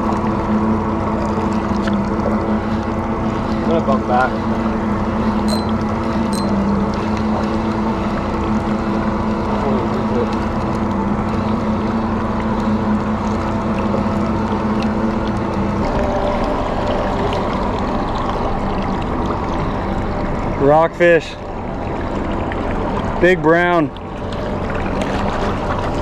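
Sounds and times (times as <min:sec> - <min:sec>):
outboard engine running: 0:00.0 - 0:26.0
water: 0:00.0 - 0:26.0
wind: 0:00.0 - 0:26.0.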